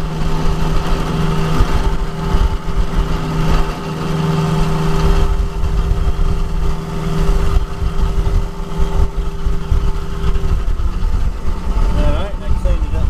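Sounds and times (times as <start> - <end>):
milling machine humming: 0.0 - 13.0.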